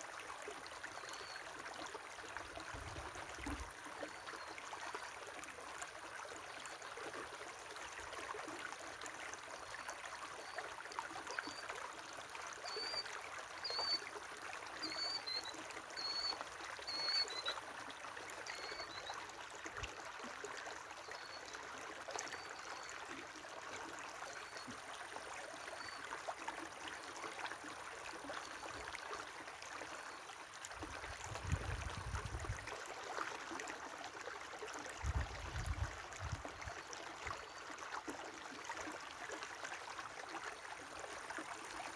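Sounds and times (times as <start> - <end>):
river water flowing: 0.1 - 41.9.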